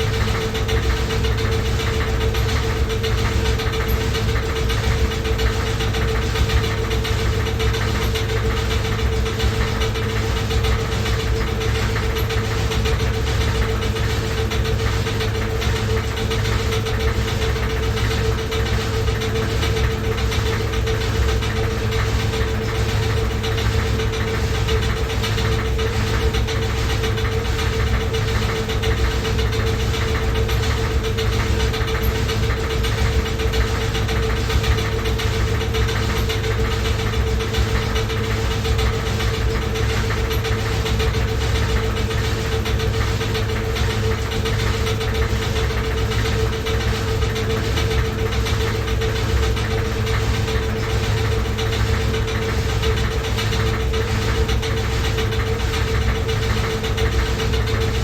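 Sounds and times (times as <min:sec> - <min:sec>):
rapid knocking: 0:00.0 - 0:58.0
washing machine hum: 0:00.0 - 0:58.0.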